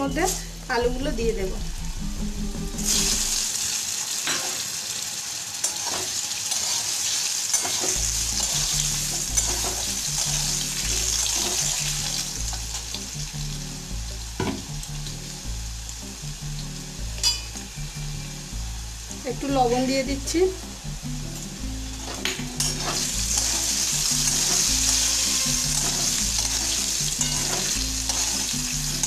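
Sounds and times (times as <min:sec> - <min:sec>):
potatoes sizzling in oil: 0:00.0 - 0:02.0, 0:02.8 - 0:29.0.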